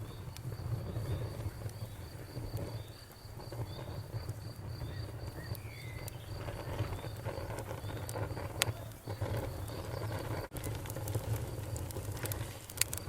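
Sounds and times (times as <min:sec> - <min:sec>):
crickets chirping: 0:00.0 - 0:10.5
campfire crackling and popping: 0:00.0 - 0:13.0.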